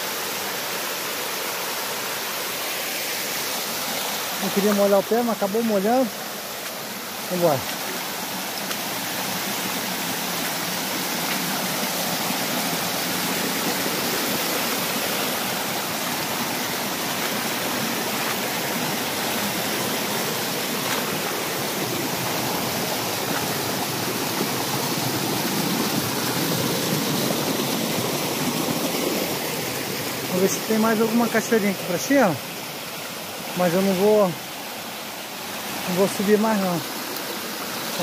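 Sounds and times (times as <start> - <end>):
water rushing down rock: 1.7 - 32.5.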